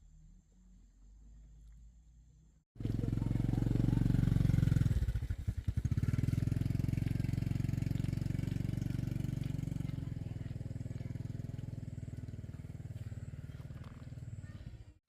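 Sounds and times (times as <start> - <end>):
small engine running: 2.8 - 15.0.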